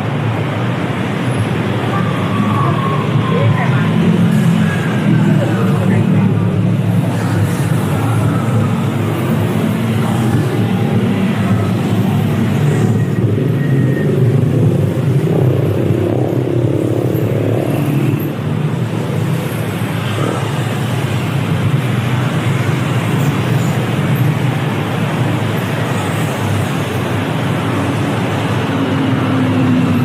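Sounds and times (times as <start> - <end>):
passing cars rumbling: 0.0 - 30.0.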